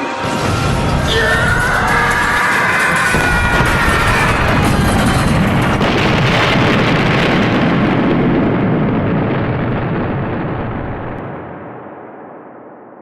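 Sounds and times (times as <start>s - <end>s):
rumbling explosion blast: 0.2s - 13.0s.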